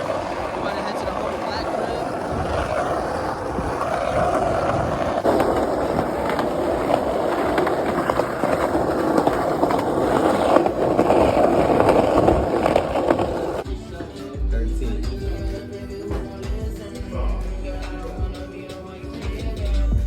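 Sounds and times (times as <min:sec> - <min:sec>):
skateboard wheels rolling on pavement: 0:00.0 - 0:20.0.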